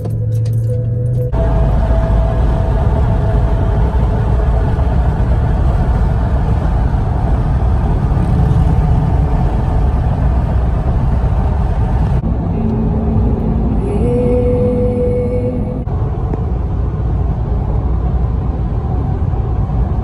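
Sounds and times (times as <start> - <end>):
car road noise: 0.0 - 20.0.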